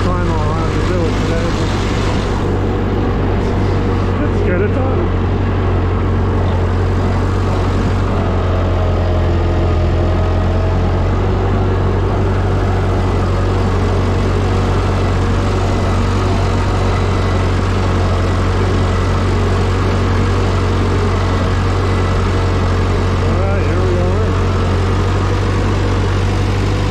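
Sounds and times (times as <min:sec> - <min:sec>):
tractor engine droning: 0:00.0 - 0:26.9.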